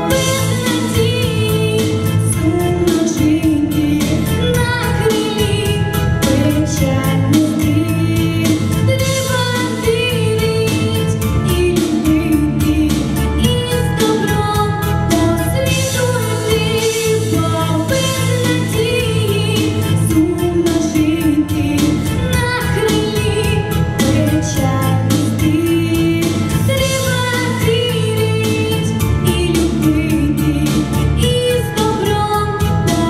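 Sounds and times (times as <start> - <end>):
girl singing into microphone: 0.0 - 33.0
instrumental music with steady beat: 0.0 - 33.0.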